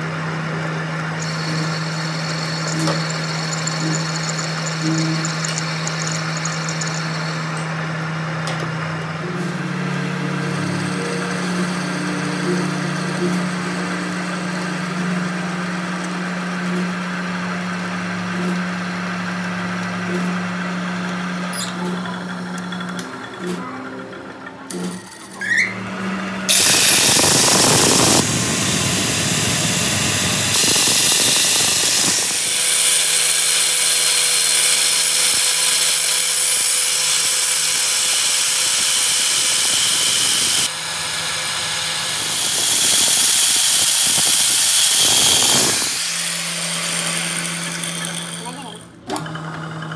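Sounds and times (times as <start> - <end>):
metal lathe humming: 0.0 - 49.9
angle grinder grinding metal: 0.9 - 49.9.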